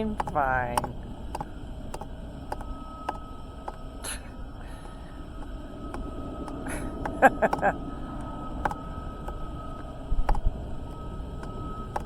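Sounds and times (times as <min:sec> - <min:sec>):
faint regular clicks: 0:00.0 - 0:12.0.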